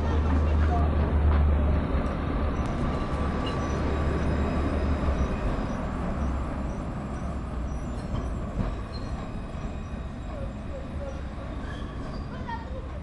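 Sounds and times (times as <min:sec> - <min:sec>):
tram rumbling on track: 0:00.0 - 0:13.0.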